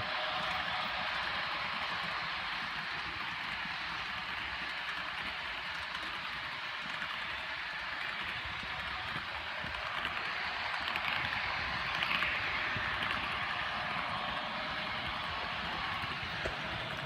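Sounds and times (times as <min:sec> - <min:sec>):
model locomotive hissing drone: 0:00.0 - 0:17.0.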